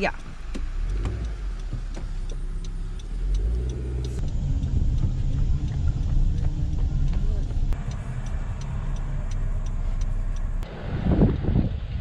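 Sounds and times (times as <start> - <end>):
light regular ticking: 0.0 - 10.6
car engine and road rumble: 0.0 - 12.0.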